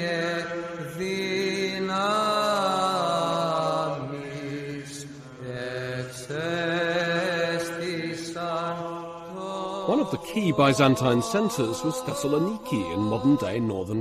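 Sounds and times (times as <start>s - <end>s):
chanted voices: 0.0s - 14.0s.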